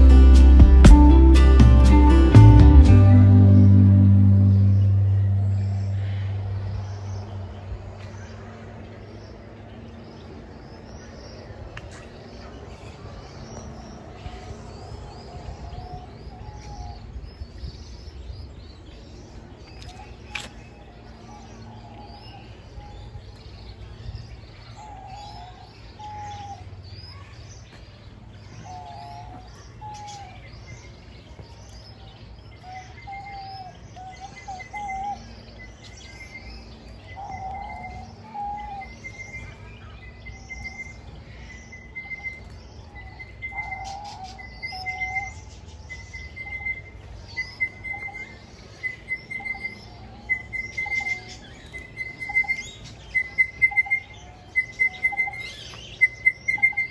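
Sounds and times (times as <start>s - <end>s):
higher bird chirps: 0.0s - 11.2s, 13.4s - 56.9s
low background rumble: 0.0s - 56.0s
wavering low bird calls: 0.0s - 56.9s.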